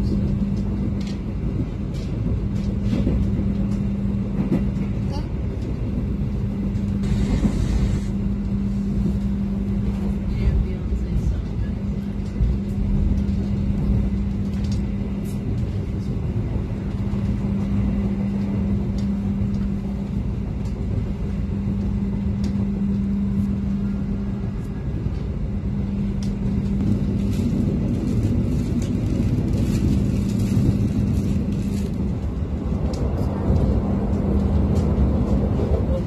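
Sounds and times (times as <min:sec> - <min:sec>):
constant hum: 0:00.0 - 0:36.0
train wheels rumbling on rail: 0:00.0 - 0:36.0.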